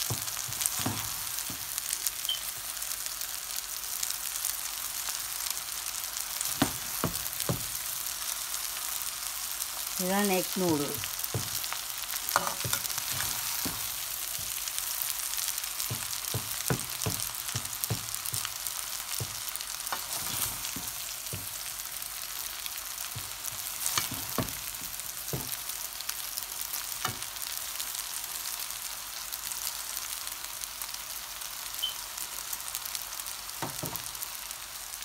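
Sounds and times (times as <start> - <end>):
food sizzling in oil: 0.0 - 35.0.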